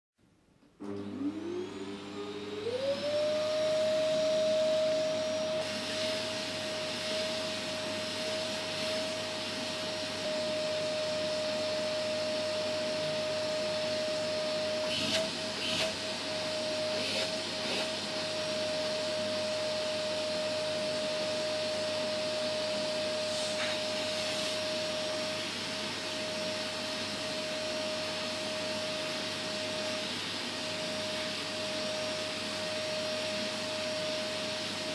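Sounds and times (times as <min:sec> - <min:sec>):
vacuum cleaner running: 0:00.6 - 0:34.9.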